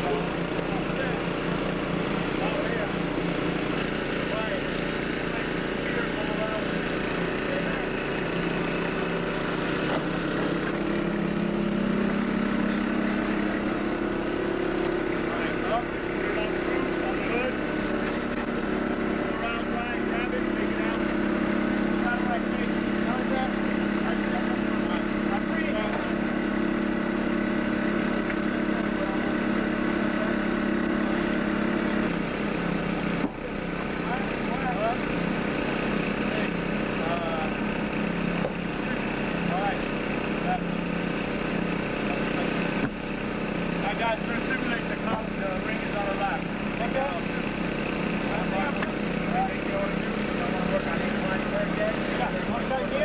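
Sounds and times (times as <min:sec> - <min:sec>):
small gasoline engine running: 0:00.0 - 0:53.0.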